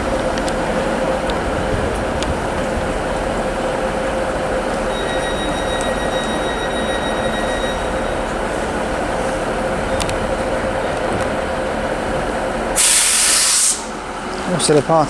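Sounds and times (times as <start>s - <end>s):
diesel train engine running: 0.0s - 15.0s.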